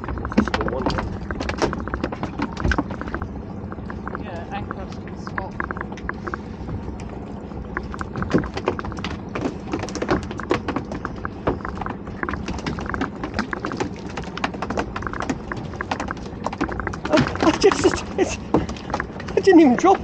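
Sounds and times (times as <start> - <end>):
fish tail flapping against wood: 0.0 - 4.9, 7.7 - 20.0
low steady hum: 0.0 - 20.0.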